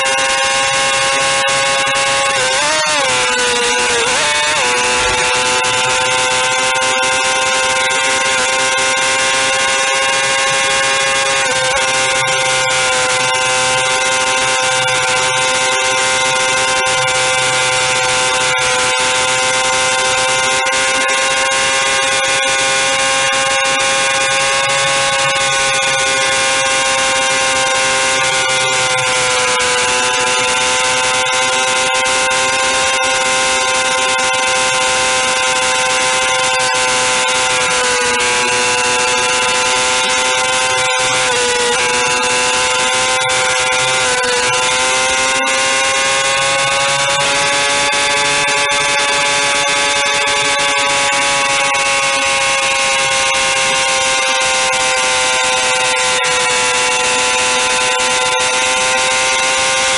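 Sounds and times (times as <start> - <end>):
motorcycle engine high revs: 0.0 - 59.9.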